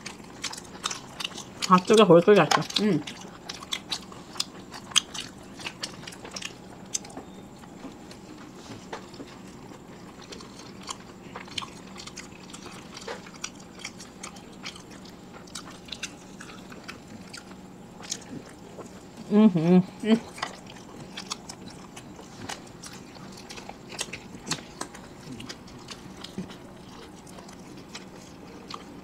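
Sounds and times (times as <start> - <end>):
people chewing food: 0.0 - 29.0.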